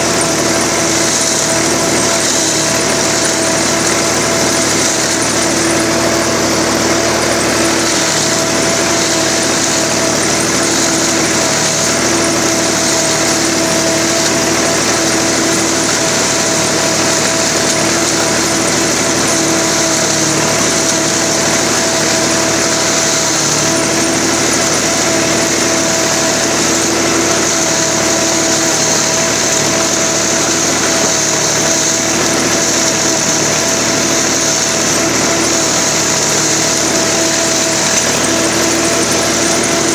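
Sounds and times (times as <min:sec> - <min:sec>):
tractor and harvester drone: 0:00.0 - 0:39.9.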